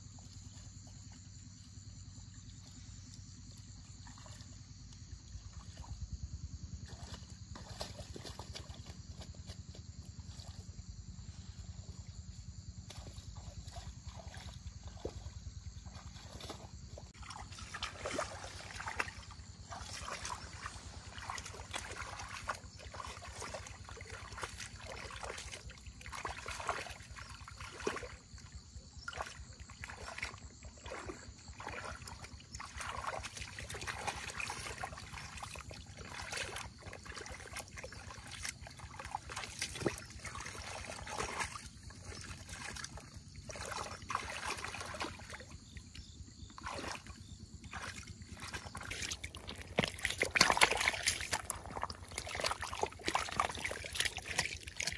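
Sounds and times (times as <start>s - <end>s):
water sloshing and splashing: 0.0s - 54.9s.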